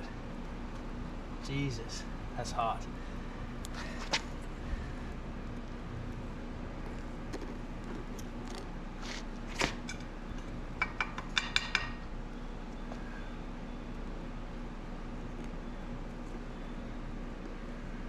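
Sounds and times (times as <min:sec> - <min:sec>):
furnace burner hum: 0:00.0 - 0:18.0.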